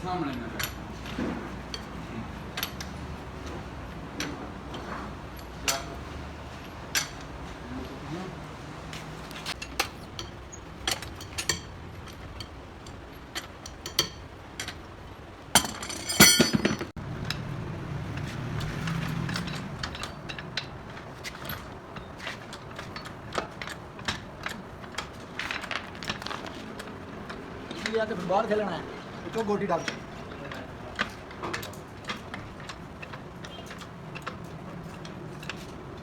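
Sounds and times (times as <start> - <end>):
ringing metallic clatter: 0.0 - 8.0, 9.4 - 36.0
metal tools clinking: 0.0 - 8.5, 9.2 - 36.0.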